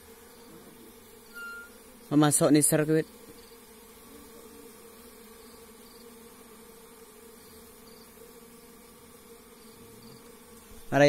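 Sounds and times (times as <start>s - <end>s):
bee colony buzzing: 0.0s - 11.0s.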